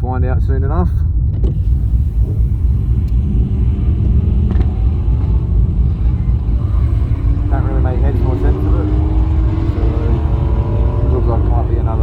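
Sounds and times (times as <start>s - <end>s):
car engine idling: 1.5s - 12.0s.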